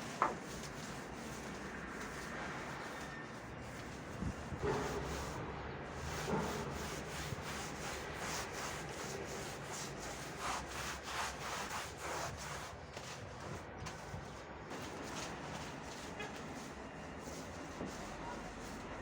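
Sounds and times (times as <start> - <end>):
scrubbing strokes on a surface: 0.0 - 19.0.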